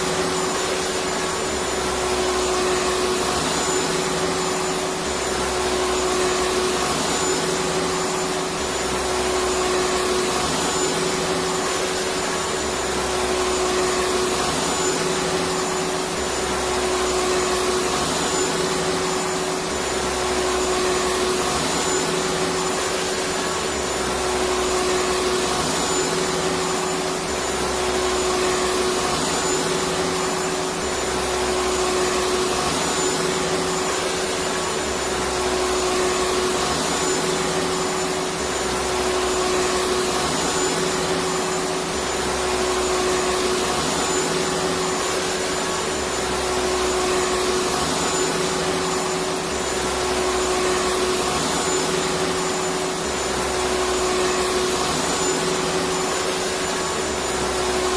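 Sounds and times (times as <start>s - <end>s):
vacuum cleaner running: 0.0s - 57.9s.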